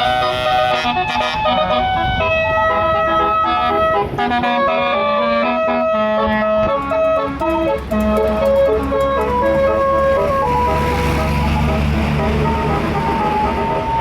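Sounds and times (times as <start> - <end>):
bus engine rumble: 0.0 - 14.0
multi-note bus horn melody: 0.0 - 14.0.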